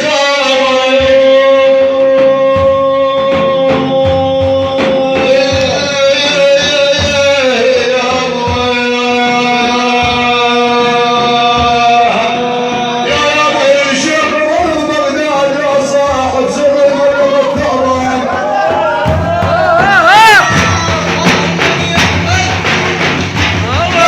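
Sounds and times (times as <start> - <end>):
drum beats: 0.0 - 24.0.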